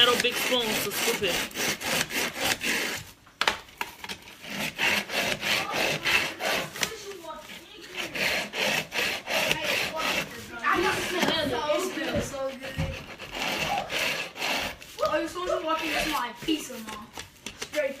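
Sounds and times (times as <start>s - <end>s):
saw rasping through pumpkin: 0.0s - 3.2s, 4.2s - 17.0s.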